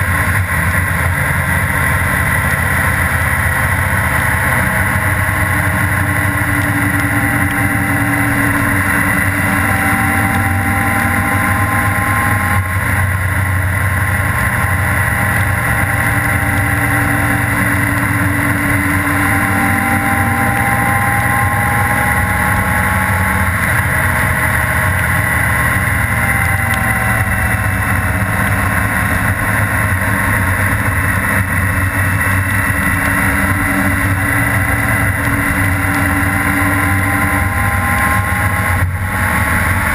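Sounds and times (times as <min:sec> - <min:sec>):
motorcycle engine cruising: 0:00.0 - 0:39.9
wet road noise: 0:00.0 - 0:39.9.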